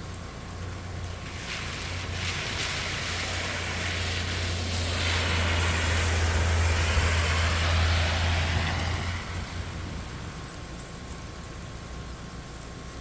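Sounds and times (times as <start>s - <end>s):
vehicle engine drone: 0.0s - 13.0s
rushing noise of passing vehicle: 0.9s - 11.7s.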